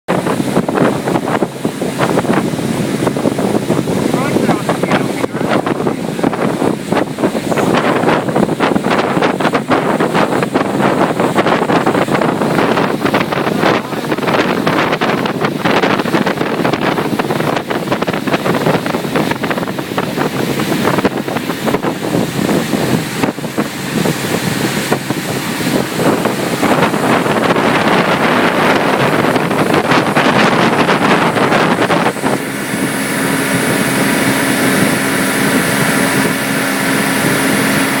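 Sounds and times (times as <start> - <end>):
boat engine drone: 0.1 - 38.0
water rushing: 0.1 - 38.0
wind buffeting microphone: 0.1 - 38.0.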